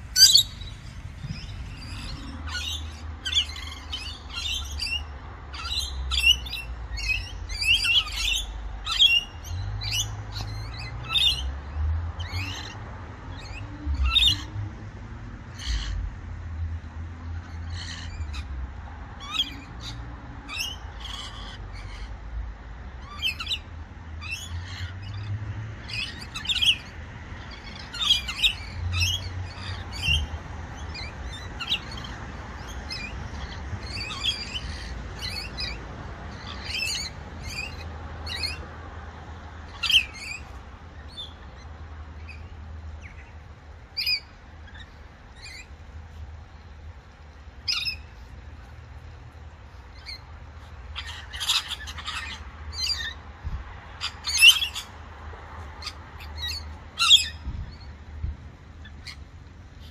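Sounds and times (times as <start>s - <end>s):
birds chirping and squawking: 0.0s - 14.7s, 15.4s - 16.2s, 17.2s - 59.9s.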